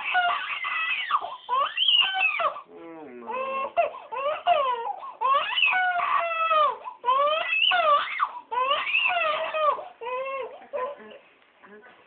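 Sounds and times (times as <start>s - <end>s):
baby crying with gasps: 0.0s - 11.0s.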